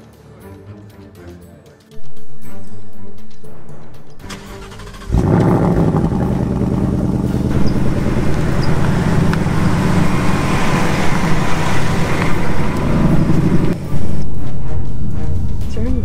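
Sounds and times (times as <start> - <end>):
road noise: 2.0 - 16.0
car driving past: 2.8 - 15.7
car engine exhaust: 3.2 - 16.0.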